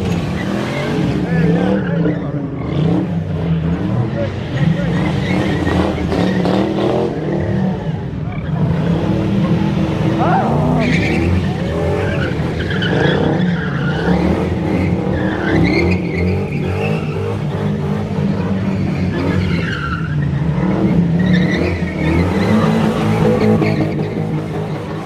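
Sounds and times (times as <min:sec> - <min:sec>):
car engines revving high: 0:00.0 - 0:25.0
tires squealing on asphalt: 0:00.0 - 0:25.0.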